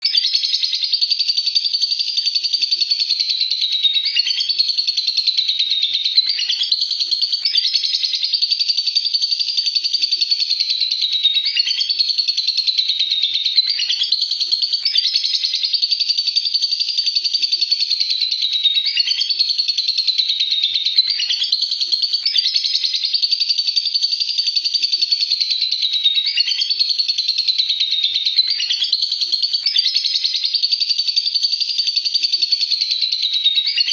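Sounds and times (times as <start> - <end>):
bird chattering trill: 0.0 - 33.9.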